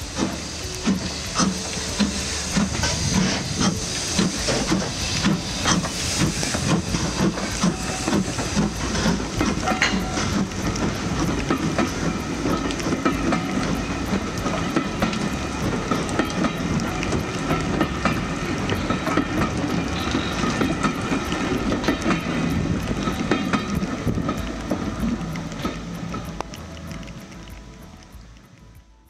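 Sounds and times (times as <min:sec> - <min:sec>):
heavy rain: 0:00.0 - 0:29.0
train wheels clattering on rails: 0:00.0 - 0:29.0.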